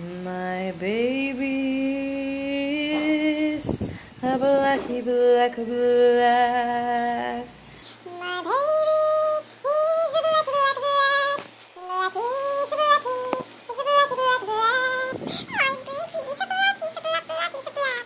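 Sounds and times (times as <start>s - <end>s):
woman singing a song: 0.0s - 18.0s.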